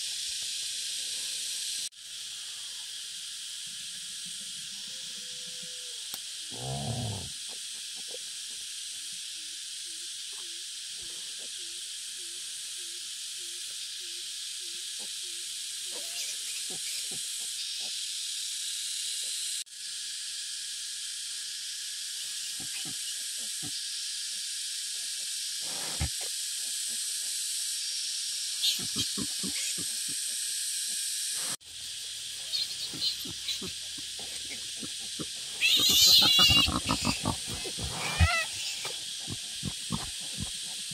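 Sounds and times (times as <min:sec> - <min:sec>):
insects hissing: 0:00.0 - 0:40.9.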